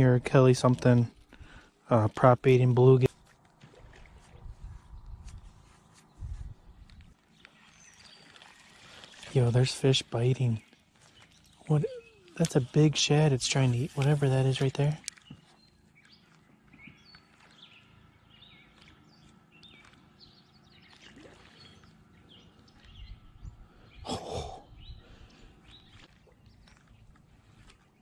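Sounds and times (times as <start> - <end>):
birds chirping: 3.9 - 28.0.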